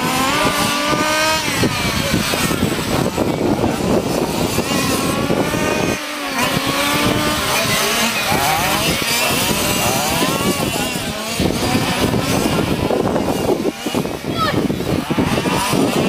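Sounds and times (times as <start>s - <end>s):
small engines whining: 0.0s - 16.0s.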